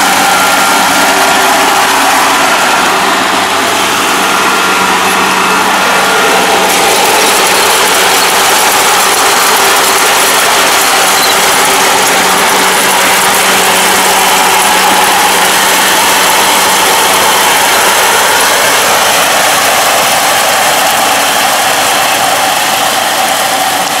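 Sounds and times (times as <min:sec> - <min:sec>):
combine harvester engine drone: 0:00.0 - 0:24.0
constant machine whine: 0:00.0 - 0:24.0.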